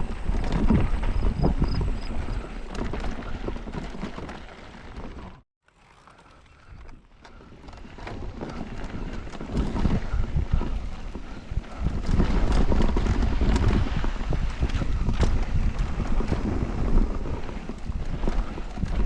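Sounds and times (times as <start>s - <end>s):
wind on microphone: 0.0s - 5.4s, 6.5s - 19.0s
bike chain and frame rattling: 0.0s - 19.0s
bike tyres on dirt: 0.0s - 19.0s.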